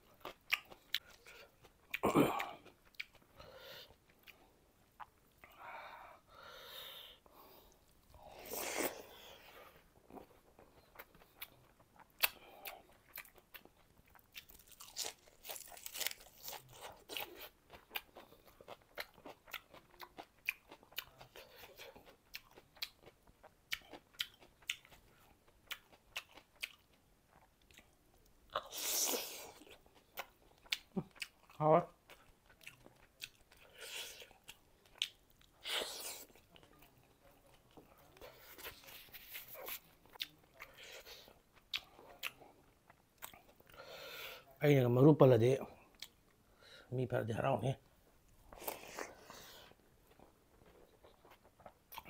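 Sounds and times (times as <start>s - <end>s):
close chewing with crunches: 0.0s - 5.6s, 7.7s - 43.8s, 48.4s - 52.0s.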